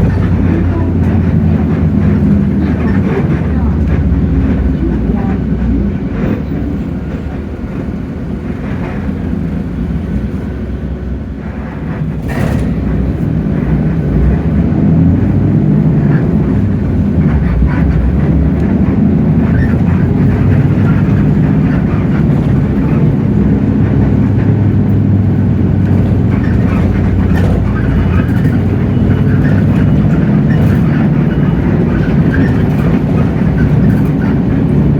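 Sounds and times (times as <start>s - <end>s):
bus diesel engine drone: 0.0s - 34.9s
road noise: 0.0s - 34.9s.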